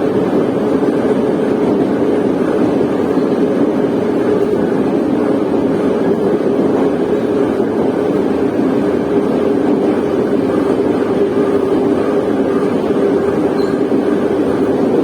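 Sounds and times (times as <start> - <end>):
low hum: 0.0 - 15.0
train wheels rumbling on rails: 0.0 - 15.0.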